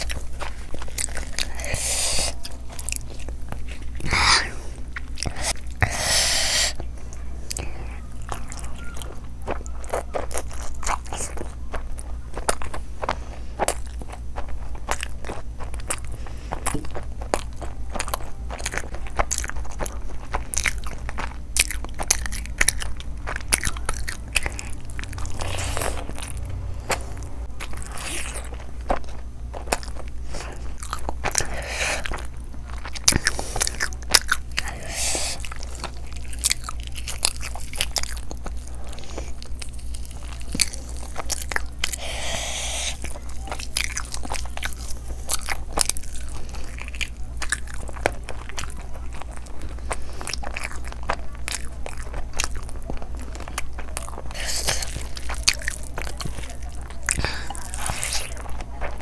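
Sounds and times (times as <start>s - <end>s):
person crunching and chewing food: 0.0s - 59.0s.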